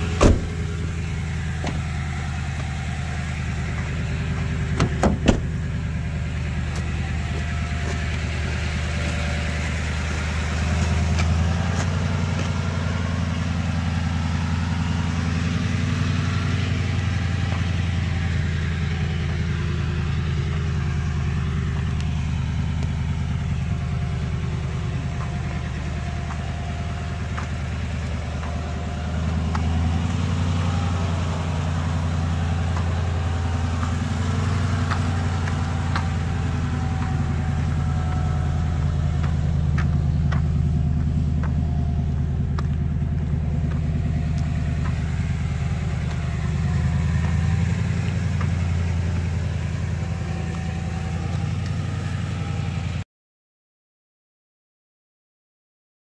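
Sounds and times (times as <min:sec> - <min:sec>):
pickup engine running: 0:00.0 - 0:53.0.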